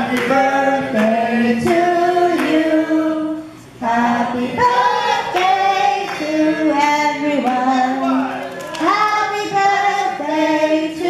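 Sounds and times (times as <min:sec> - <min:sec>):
woman singing unaccompanied: 0:00.0 - 0:08.2, 0:08.8 - 0:11.0.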